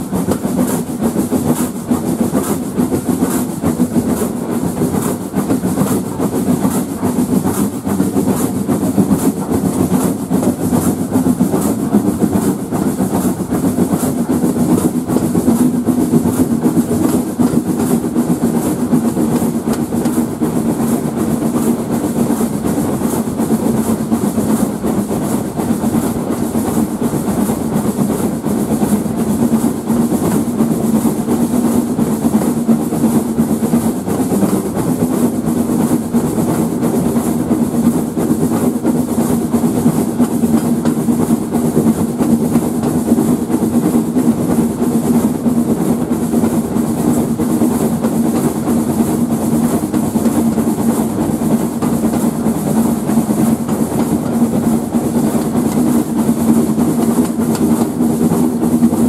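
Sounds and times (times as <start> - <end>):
steam train wheels rumbling on rails: 0.0 - 59.0.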